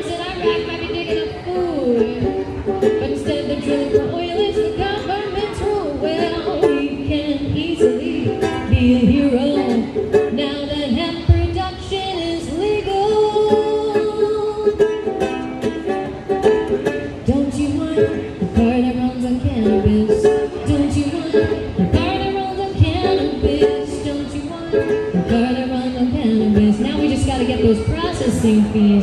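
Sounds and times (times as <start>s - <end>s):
woman singing: 0.0s - 15.4s, 17.1s - 29.0s
ukulele strumming: 0.0s - 29.0s.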